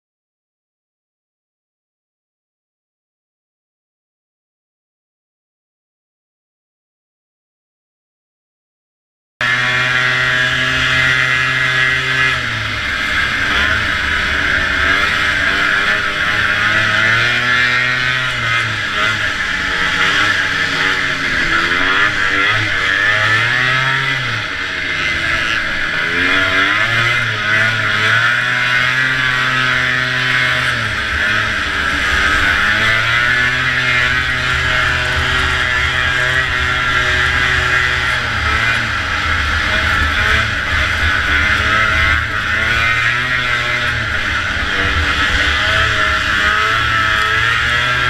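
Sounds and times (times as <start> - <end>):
snowmobile engine revving: 9.4 - 48.0.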